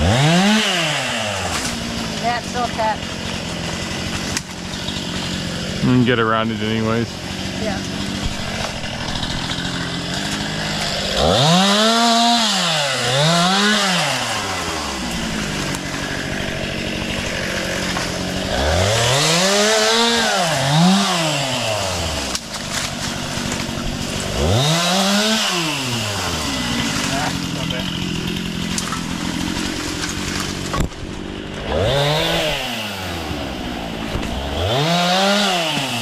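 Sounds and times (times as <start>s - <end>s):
chainsaw idling and revving: 0.0s - 36.0s.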